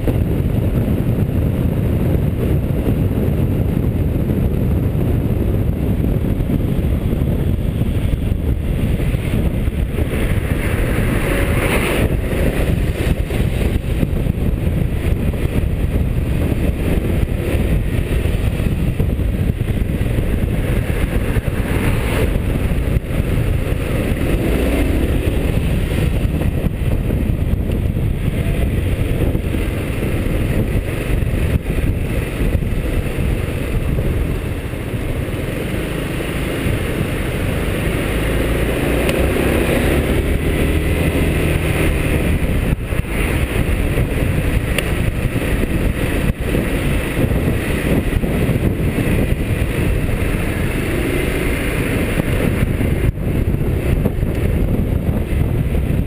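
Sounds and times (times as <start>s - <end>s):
road noise: 0.0s - 56.0s
scooter engine running: 0.0s - 56.0s
wind noise: 0.0s - 56.0s.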